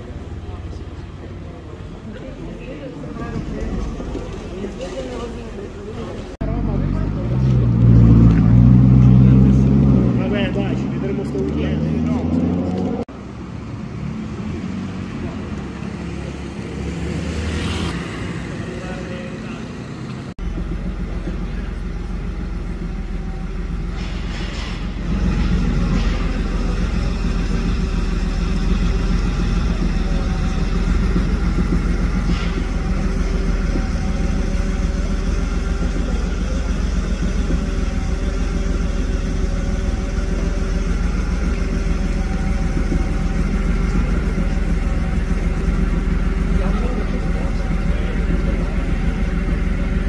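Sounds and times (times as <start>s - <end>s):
car engine idling: 0.0s - 13.8s, 18.3s - 50.0s.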